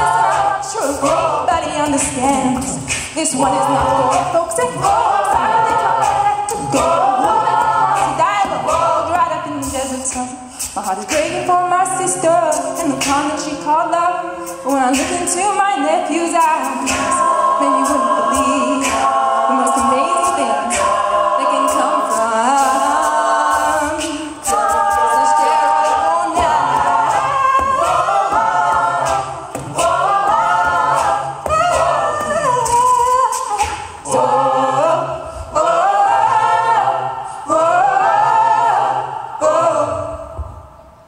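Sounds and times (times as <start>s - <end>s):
beatboxed vocal percussion: 0.0s - 38.6s
woman singing lead vocal: 0.0s - 40.4s
a cappella group singing: 0.0s - 41.0s.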